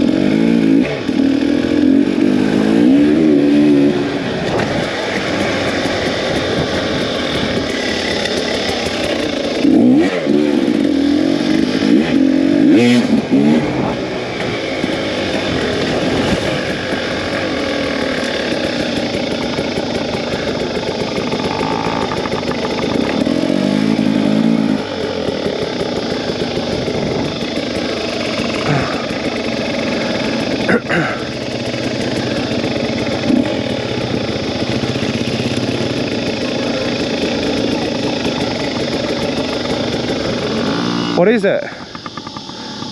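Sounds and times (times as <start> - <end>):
two-stroke dirt bike engine revving: 0.0 - 42.9.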